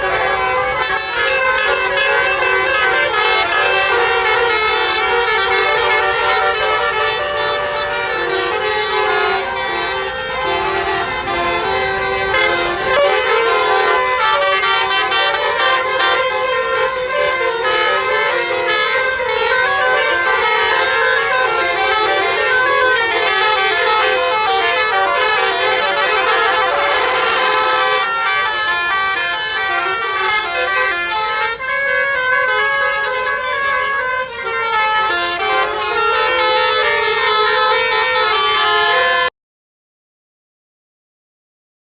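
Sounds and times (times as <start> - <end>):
bus air horns playing a tune: 0.0 - 39.3.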